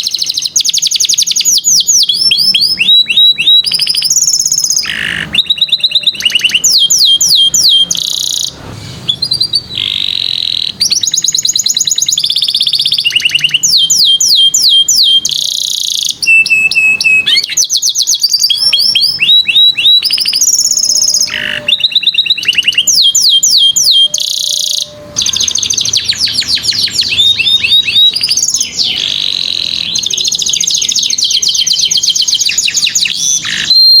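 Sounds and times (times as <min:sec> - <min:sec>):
canary singing trills: 0:00.0 - 0:34.0.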